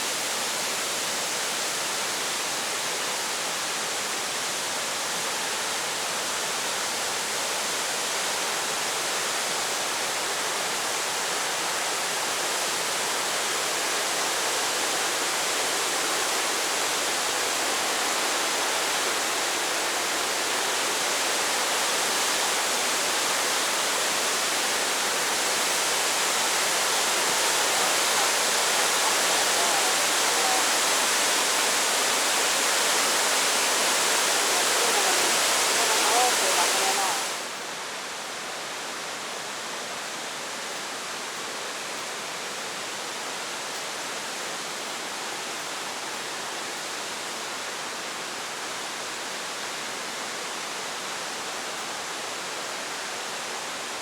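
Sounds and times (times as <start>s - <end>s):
waterfall roar: 0.0s - 54.0s.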